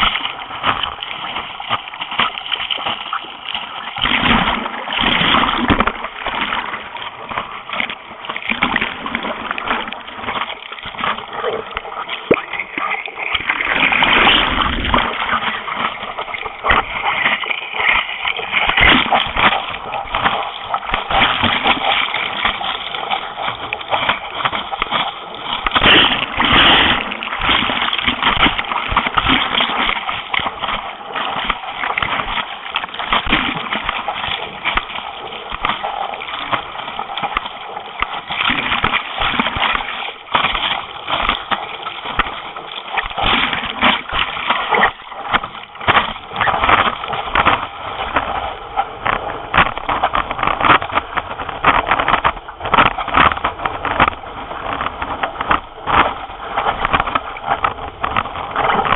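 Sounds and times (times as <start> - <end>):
sea water splashing and rushing: 0.0 - 58.9.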